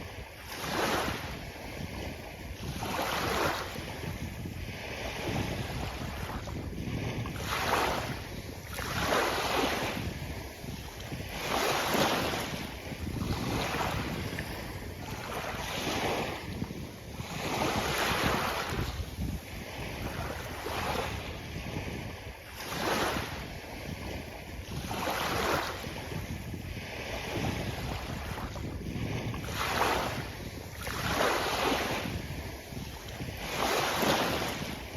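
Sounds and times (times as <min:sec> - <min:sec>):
sea waves breaking on beach: 0:00.0 - 0:34.9.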